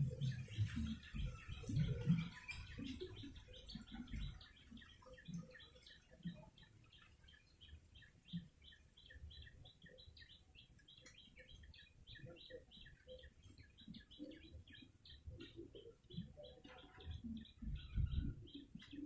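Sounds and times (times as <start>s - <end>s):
bird chirping rapidly: 0.1s - 19.0s.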